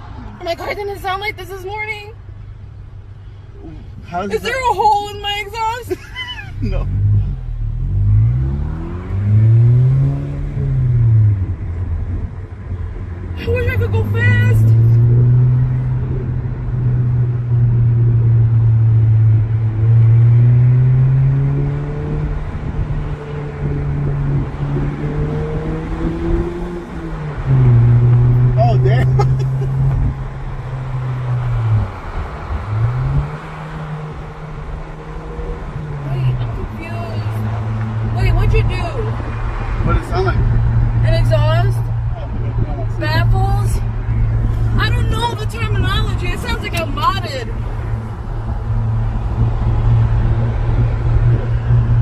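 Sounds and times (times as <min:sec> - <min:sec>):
car engine deep exhaust drone: 0:00.0 - 0:52.0.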